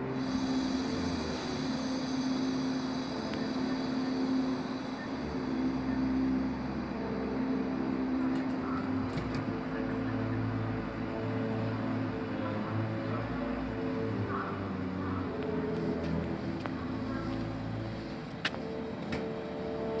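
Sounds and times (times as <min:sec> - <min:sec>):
train humming drone: 0:00.0 - 0:20.0.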